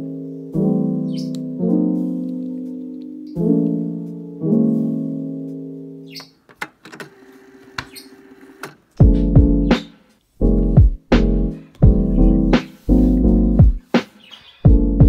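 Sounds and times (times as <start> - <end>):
piano chords: 0.0 - 6.5, 7.1 - 14.0.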